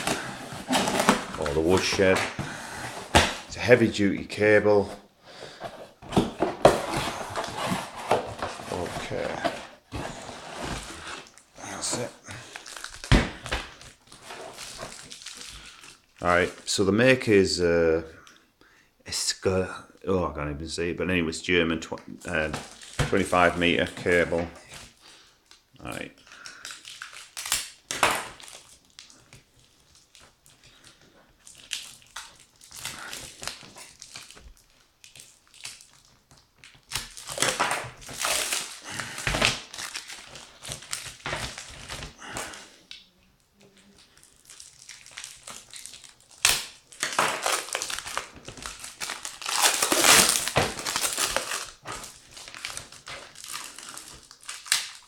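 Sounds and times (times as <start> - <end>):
packaging crinkling and crumpling: 0.0 - 3.9, 5.6 - 16.8, 22.3 - 55.0.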